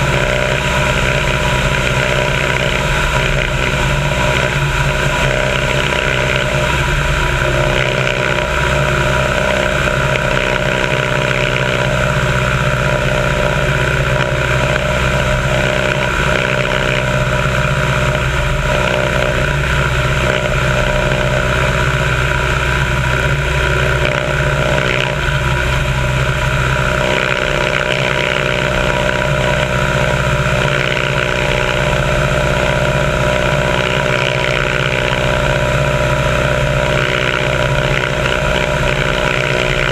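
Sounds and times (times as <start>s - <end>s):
plane piston engine drone: 0.0s - 39.9s.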